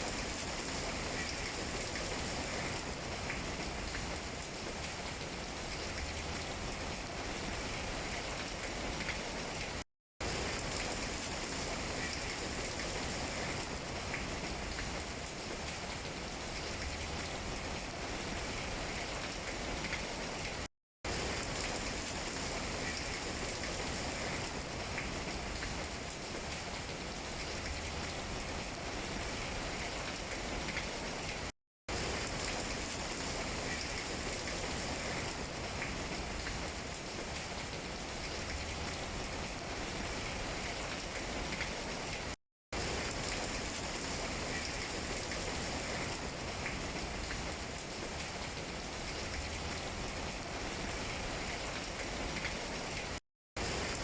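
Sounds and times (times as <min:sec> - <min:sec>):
rain on leaves: 0:00.0 - 0:54.0.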